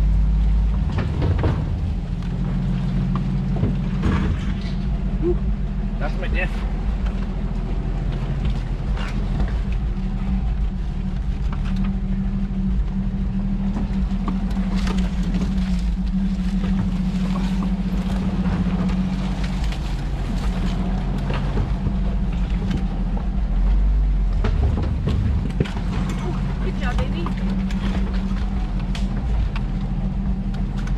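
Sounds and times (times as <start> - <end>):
body knocks and rattles: 0.0 - 30.9
truck engine running: 0.0 - 30.9.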